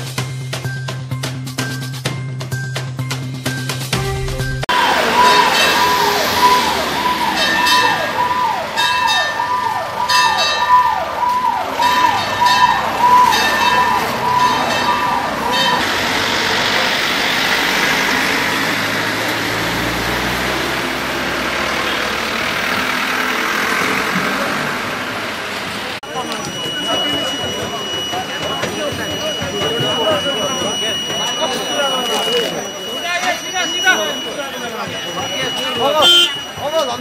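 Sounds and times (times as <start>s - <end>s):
engines rumbling: 3.9s - 37.0s
siren horn blasts: 4.0s - 25.1s, 25.9s - 37.0s
fire engine siren wailing: 4.6s - 37.0s.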